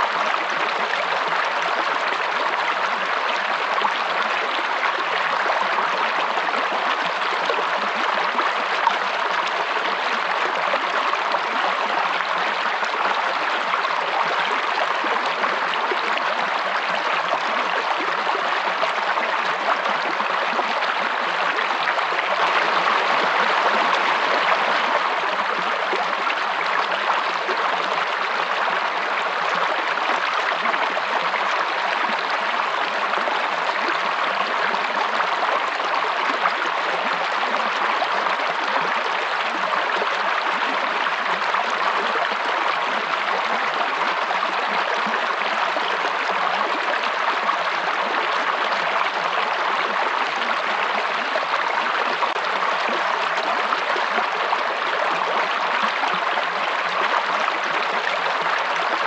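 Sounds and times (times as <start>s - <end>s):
running water stream: 0.0s - 59.0s.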